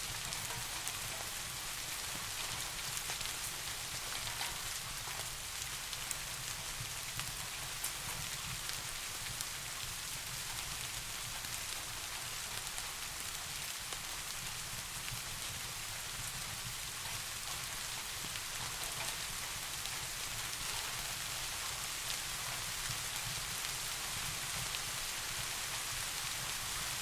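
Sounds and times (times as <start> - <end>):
steady rain hiss: 0.0 - 27.0
raindrop ticks: 0.1 - 27.0.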